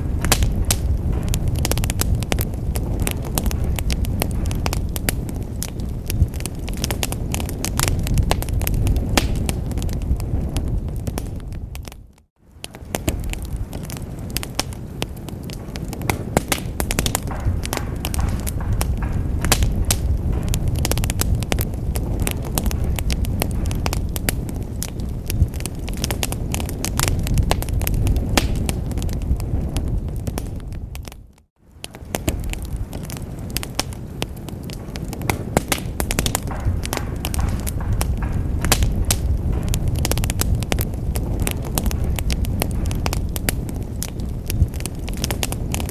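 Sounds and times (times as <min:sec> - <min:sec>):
low rumble of fire: 0:00.0 - 0:45.9
wood fire crackling: 0:00.0 - 0:45.9.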